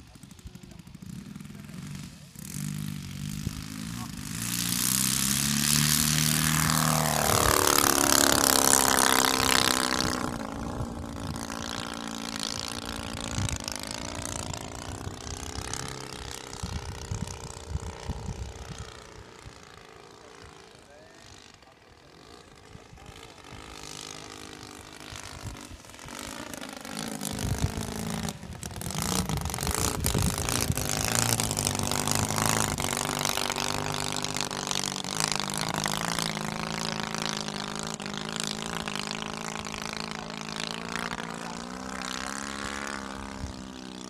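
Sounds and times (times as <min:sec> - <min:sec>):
model plane engine drone: 0:00.0 - 0:44.0.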